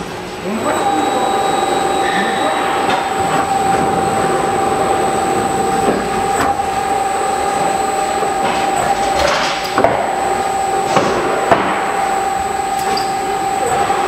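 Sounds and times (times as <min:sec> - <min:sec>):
wrapping machine running with whine: 0:00.0 - 0:14.0.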